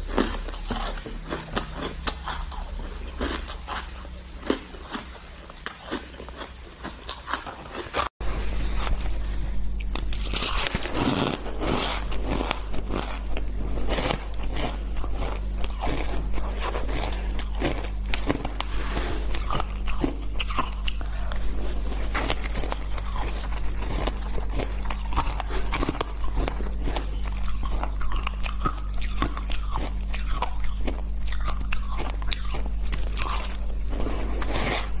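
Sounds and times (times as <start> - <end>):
crunching and chewing ice: 0.0 - 35.0
steady low hum: 0.0 - 35.0.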